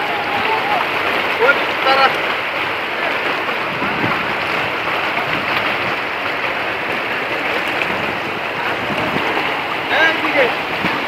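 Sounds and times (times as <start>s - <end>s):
river water rushing over stones: 0.0s - 11.0s.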